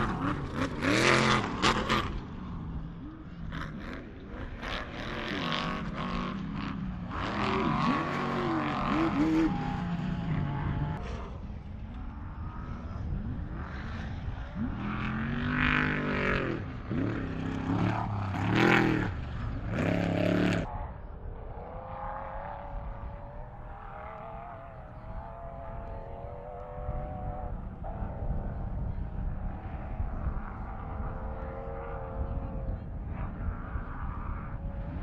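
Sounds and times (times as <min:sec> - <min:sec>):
faint engine steady note: 0:00.0 - 0:35.0
off-road race engines passing: 0:00.0 - 0:35.0.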